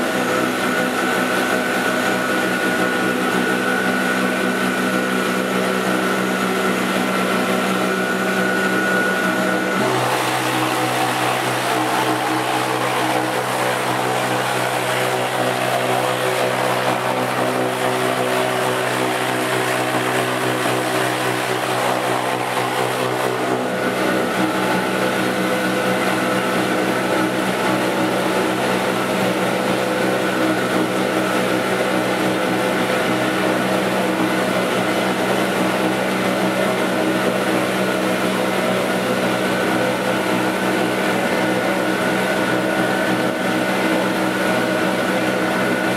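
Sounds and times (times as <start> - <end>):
bowl cutter machine hum: 0.0 - 45.9.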